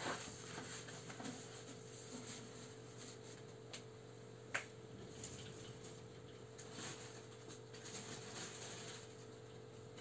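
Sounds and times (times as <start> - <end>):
computer fans humming: 0.0 - 10.0.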